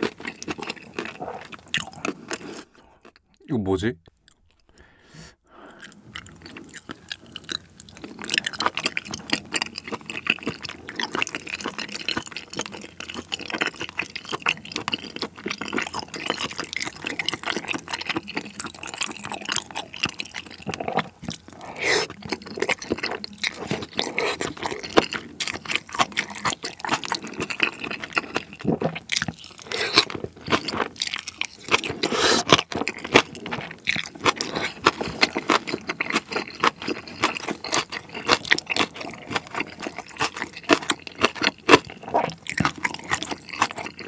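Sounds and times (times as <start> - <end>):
wet sticky chewing: 0.0 - 3.3, 5.6 - 44.0.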